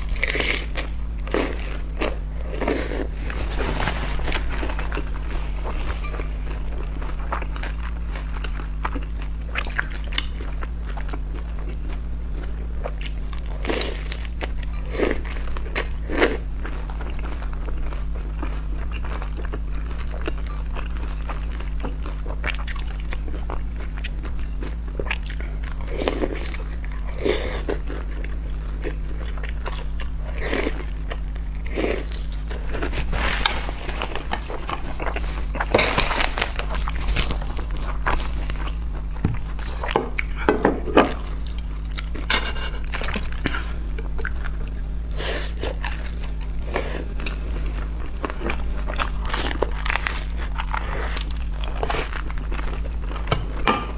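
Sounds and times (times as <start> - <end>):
crunchy bites and chewing: 0.0 - 53.9
steady low hum: 0.0 - 53.9.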